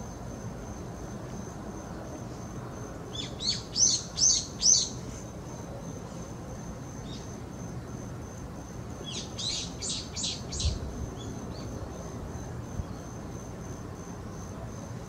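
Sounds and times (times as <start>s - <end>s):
high-pitched insect trill: 0.0s - 14.5s.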